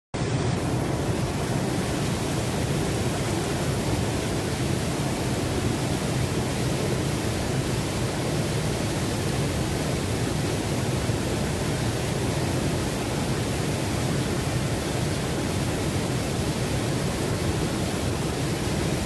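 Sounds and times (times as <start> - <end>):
waterfall rushing: 0.2 - 19.0.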